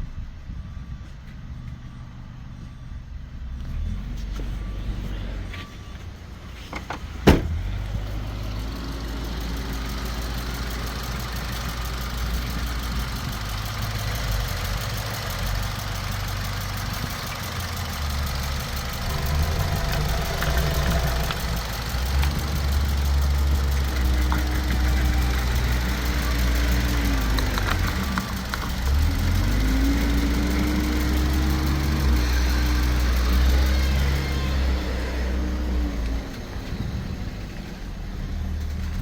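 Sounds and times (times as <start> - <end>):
car engine idling: 1.9 - 39.0.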